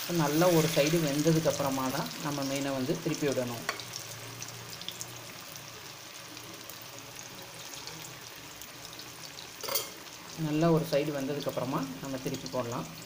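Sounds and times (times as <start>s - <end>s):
fish sizzling in hot oil: 0.0s - 13.0s
oil crackle: 0.0s - 13.0s.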